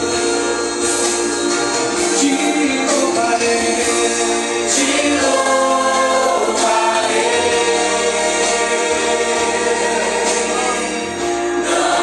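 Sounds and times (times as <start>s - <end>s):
instrumental accompaniment: 0.0s - 12.0s
group singing worship song: 2.0s - 12.0s.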